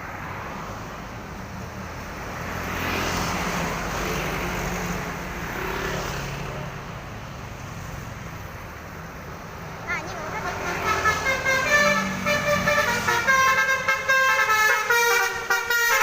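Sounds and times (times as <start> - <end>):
bus passing by: 0.0 - 16.0.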